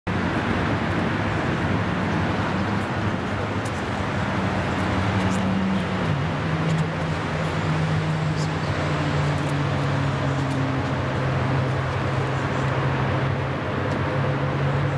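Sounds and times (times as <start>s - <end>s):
diesel locomotive engine under load: 0.1s - 14.9s
train rumble: 0.1s - 14.9s.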